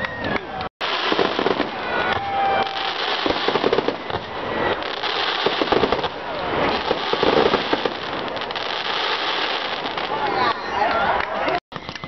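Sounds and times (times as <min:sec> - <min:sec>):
fireworks bangs and crackles: 0:00.2 - 0:12.0.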